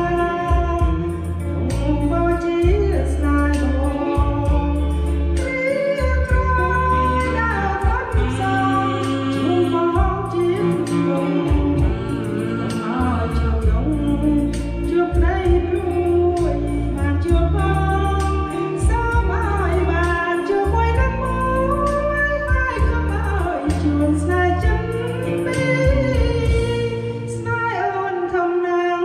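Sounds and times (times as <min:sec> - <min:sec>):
backing track with steady beat: 0:00.0 - 0:28.7
person singing: 0:00.0 - 0:29.0.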